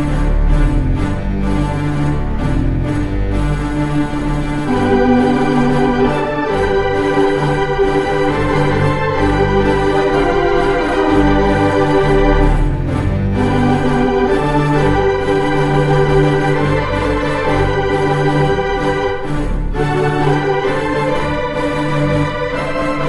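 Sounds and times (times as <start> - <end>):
theatre pipe organ playing chords: 0.0 - 23.0.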